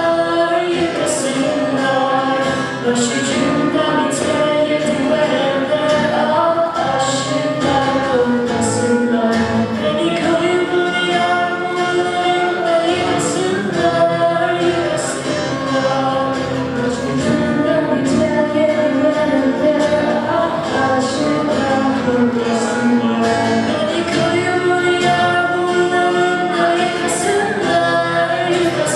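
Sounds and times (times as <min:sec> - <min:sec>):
group of voices singing: 0:00.0 - 0:28.9.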